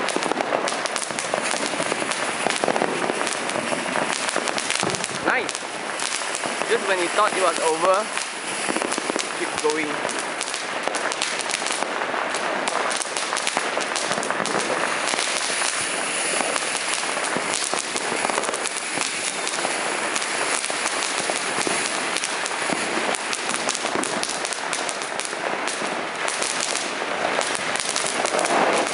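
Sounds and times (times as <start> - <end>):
firework fountain hissing and crackling: 0.0 - 28.9.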